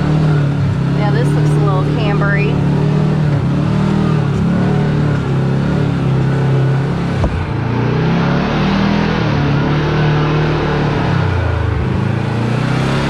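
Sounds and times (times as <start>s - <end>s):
utility vehicle engine crawling: 0.0s - 13.0s.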